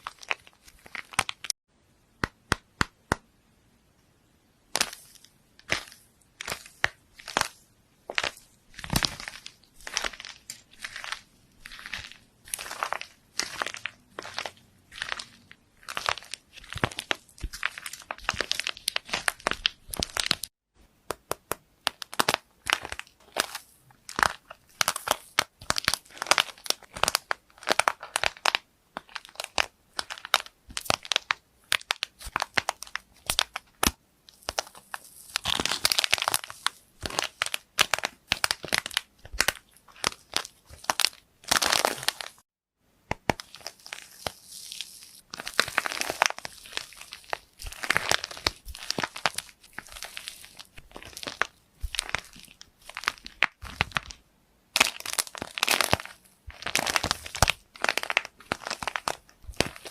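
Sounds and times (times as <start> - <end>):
slime crackling and popping: 0.0 - 1.6, 4.7 - 20.5, 21.3 - 42.4, 43.1 - 59.9.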